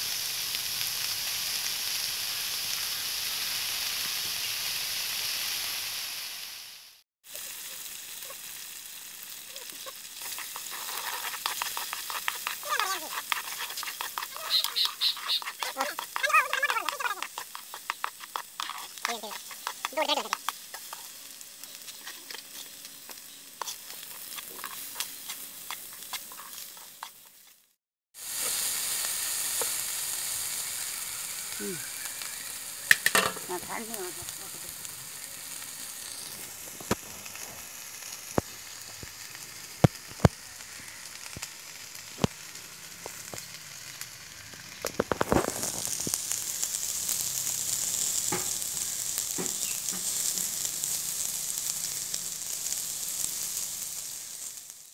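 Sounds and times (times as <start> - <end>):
vegetables sizzling in hot oil: 0.0 - 54.9.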